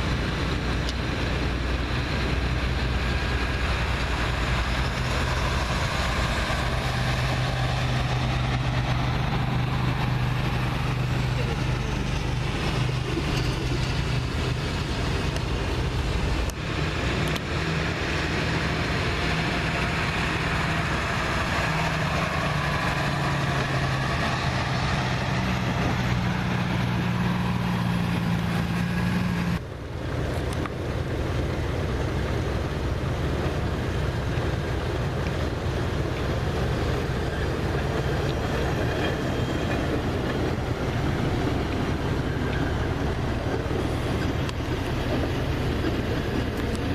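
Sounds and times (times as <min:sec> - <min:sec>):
broad rushing noise: 0:00.0 - 0:46.9
diesel engine drone: 0:00.0 - 0:46.9.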